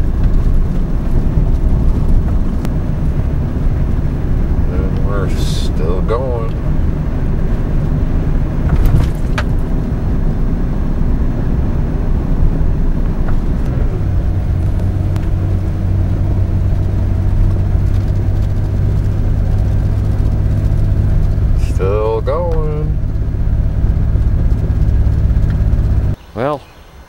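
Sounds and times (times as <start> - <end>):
car cabin road rumble: 0.0 - 27.0
engine hum: 0.0 - 27.0.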